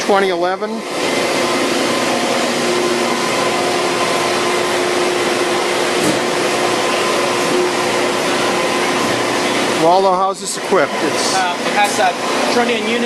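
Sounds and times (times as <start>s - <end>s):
faint machine hums: 0.0s - 13.0s.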